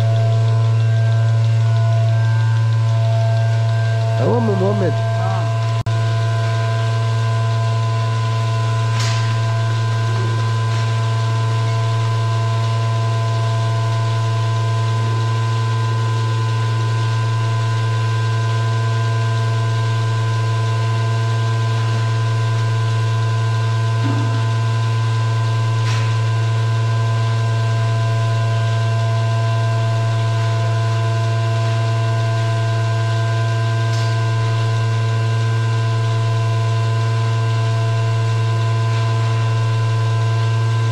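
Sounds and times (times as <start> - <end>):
steady machine hum: 0.0 - 40.9.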